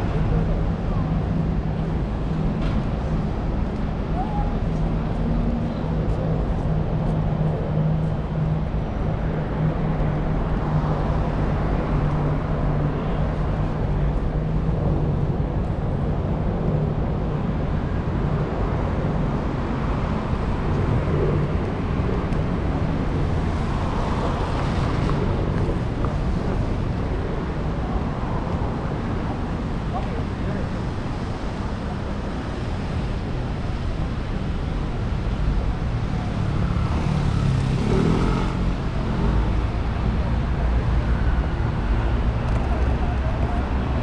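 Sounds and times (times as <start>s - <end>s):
traffic engine hum: 0.0s - 44.0s
tyre and road noise: 0.0s - 44.0s.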